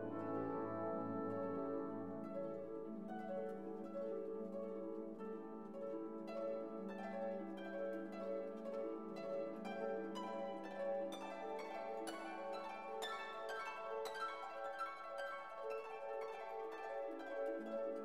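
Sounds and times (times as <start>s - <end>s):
plucked notes: 0.0s - 14.5s.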